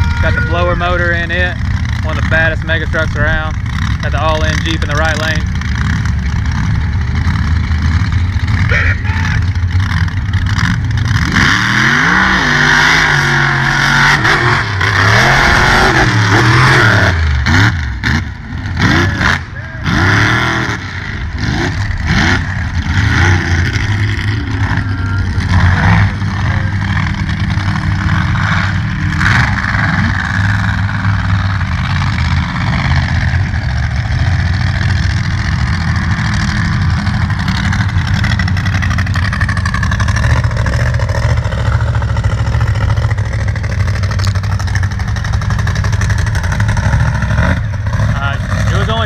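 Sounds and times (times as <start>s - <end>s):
truck engines revving: 0.0s - 49.0s.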